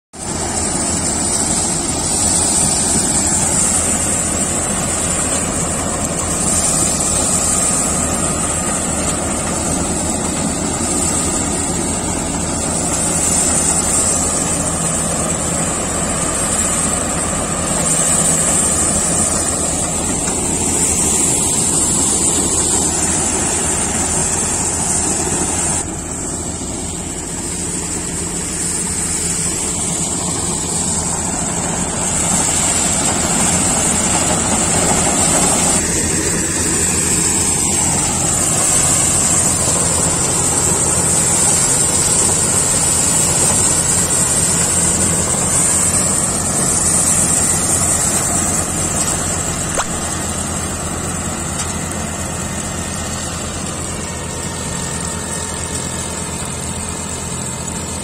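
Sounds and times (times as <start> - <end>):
steady high whine: 0.1 - 58.0
churning of threshing works: 0.2 - 58.0
combine harvester engine hum: 0.2 - 58.0.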